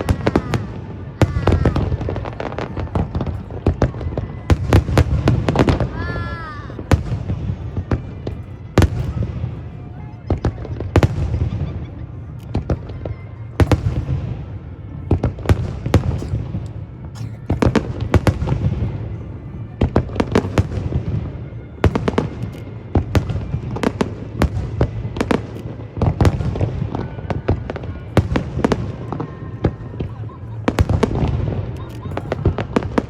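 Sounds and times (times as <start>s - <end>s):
fireworks bangs: 0.0s - 33.0s
fireworks crackle: 0.0s - 33.0s.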